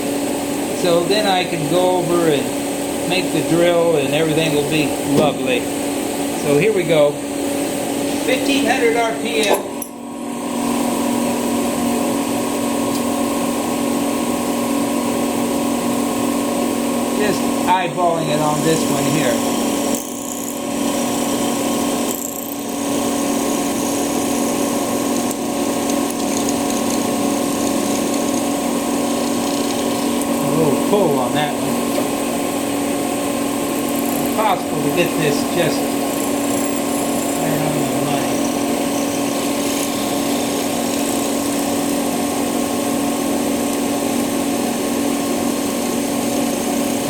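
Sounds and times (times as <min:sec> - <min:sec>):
converter fan noise: 0:00.0 - 0:47.0
mortising machine running: 0:00.4 - 0:47.0.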